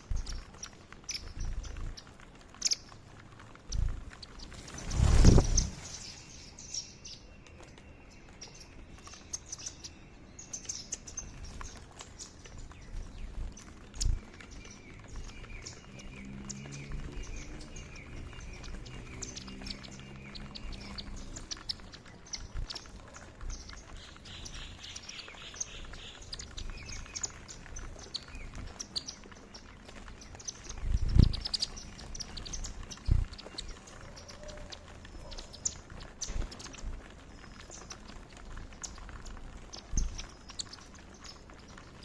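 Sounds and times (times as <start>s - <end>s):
birds twittering: 0.0s - 42.0s.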